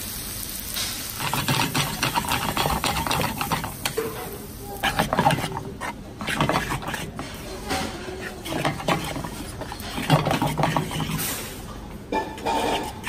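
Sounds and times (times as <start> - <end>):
fork scraping a frying pan: 1.1 - 13.0.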